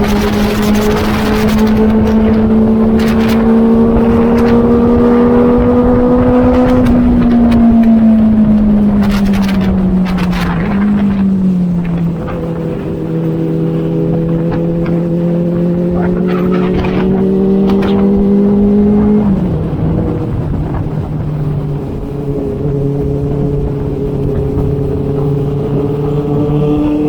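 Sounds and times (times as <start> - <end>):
motorcycle engine revving: 0.0 - 27.0
wind rush on microphone: 0.0 - 27.0.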